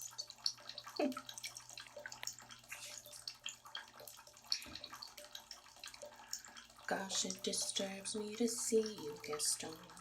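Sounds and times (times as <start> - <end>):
bathwater splashing and dripping: 0.0 - 10.0.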